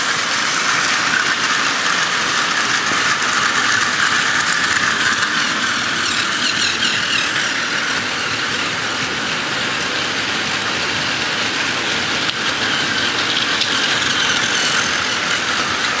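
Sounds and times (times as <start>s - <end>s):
toy train motors whirring: 0.0s - 16.0s
toy wagons rattling on track: 0.0s - 16.0s.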